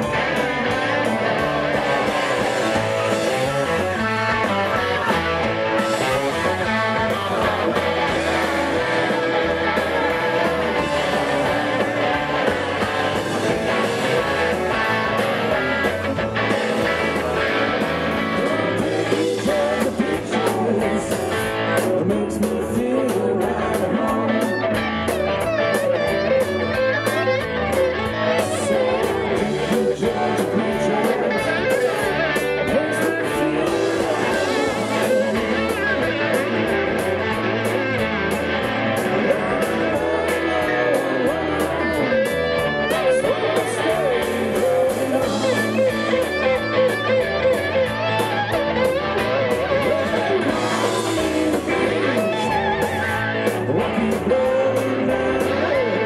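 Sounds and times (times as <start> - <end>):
electric guitars: 0.0 - 56.0
live rock band playing: 0.0 - 56.0.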